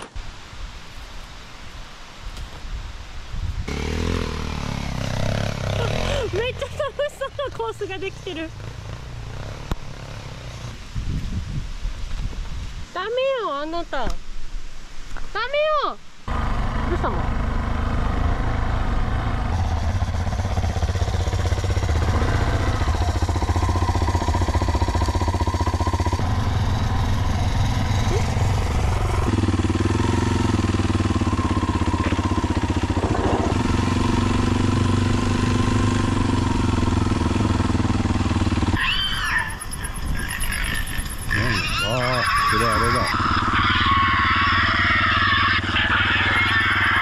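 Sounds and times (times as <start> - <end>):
motorcycle engine running: 3.6 - 10.8, 16.3 - 47.0.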